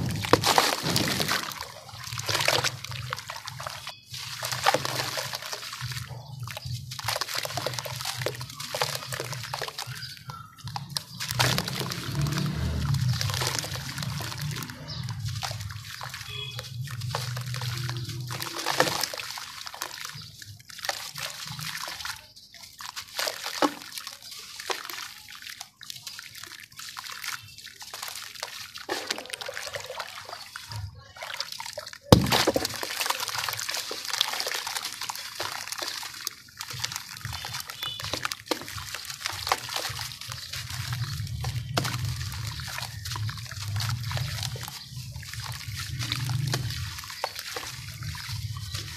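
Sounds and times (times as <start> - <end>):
powder pouring into water: 0.0 - 48.9
sand and cement crumbled by hand: 0.0 - 48.9
water sloshing and splashing: 0.0 - 48.9.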